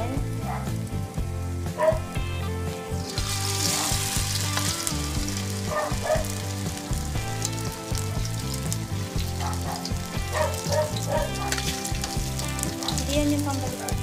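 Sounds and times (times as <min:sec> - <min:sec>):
fritters sizzling in hot oil: 0:00.0 - 0:14.0.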